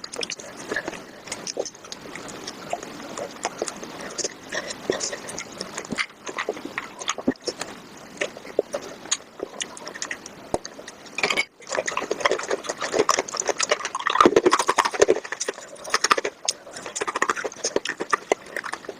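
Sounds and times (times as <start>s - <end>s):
sped-up wet chewing and crunching: 0.0s - 18.9s.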